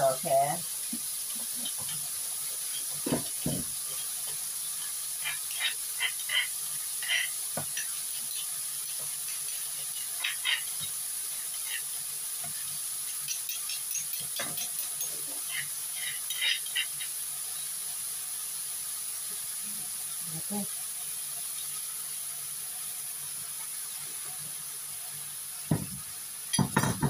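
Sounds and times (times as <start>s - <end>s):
meat frying in a wok: 0.0s - 27.0s.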